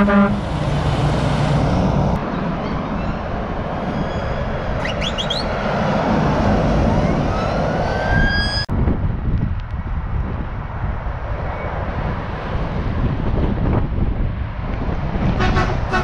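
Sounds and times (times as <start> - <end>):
heavy lorries passing: 0.0 - 9.0, 10.5 - 16.0.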